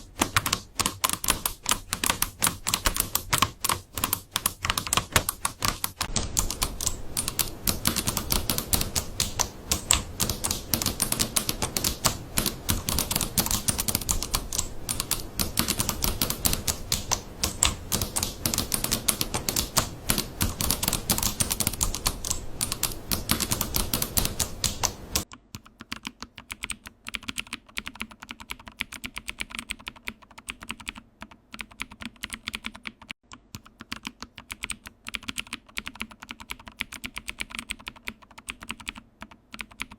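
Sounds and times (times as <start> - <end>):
fast typing on keyboard: 0.0 - 39.9
light keyboard typing: 0.0 - 39.9.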